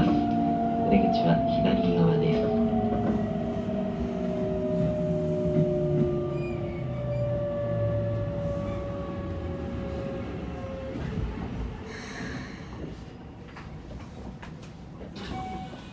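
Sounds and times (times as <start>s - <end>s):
train inverter whining: 0.0s - 14.0s.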